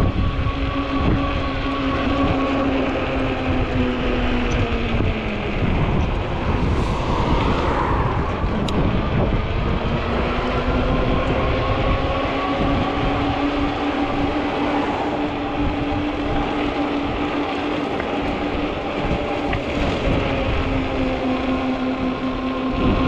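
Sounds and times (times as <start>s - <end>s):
electric motor whine: 0.0s - 23.0s
wind rumble on microphone: 0.0s - 23.0s.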